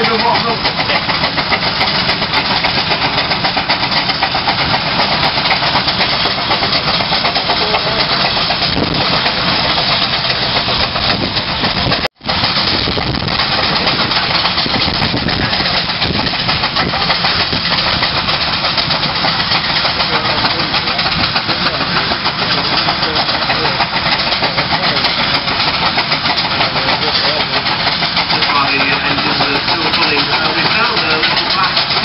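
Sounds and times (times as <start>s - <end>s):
steam traction engines working: 0.0s - 32.0s.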